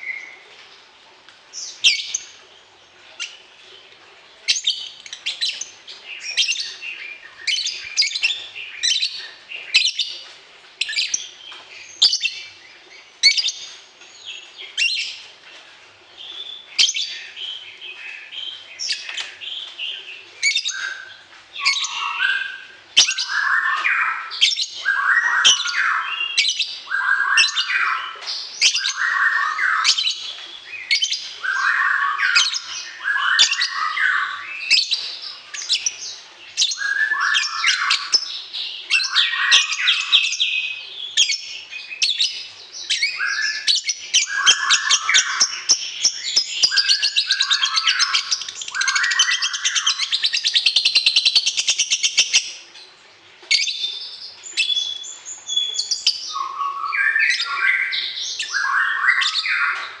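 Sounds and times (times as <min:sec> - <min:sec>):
songbird chirping and trilling: 0:00.0 - 1:00.0.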